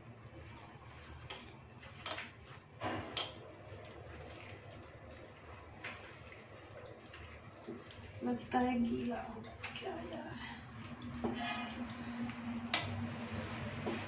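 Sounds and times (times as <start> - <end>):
hands kneading dough: 0.4 - 14.0.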